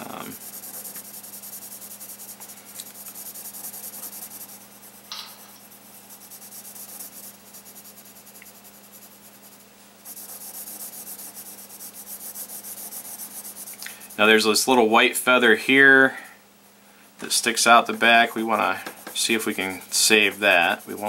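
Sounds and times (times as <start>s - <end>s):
pencil scratching on paper: 0.0s - 5.1s, 5.8s - 14.7s, 17.2s - 21.0s.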